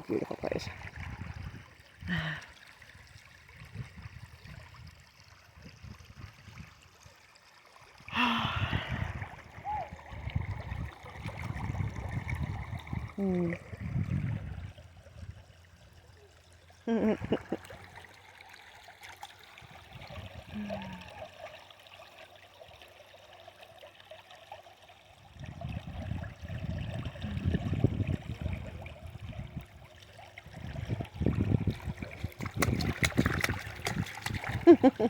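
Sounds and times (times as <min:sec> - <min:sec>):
stream trickling: 0:00.0 - 0:35.0.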